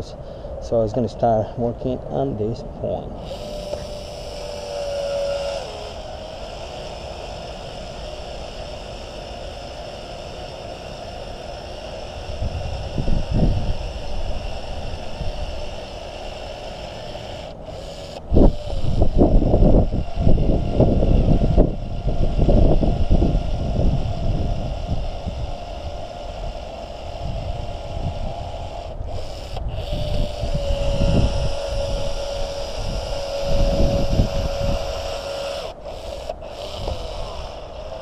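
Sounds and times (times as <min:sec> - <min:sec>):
wind rumbling on microphone: 0:00.0 - 0:38.0
power caulking gun whine: 0:03.2 - 0:38.0.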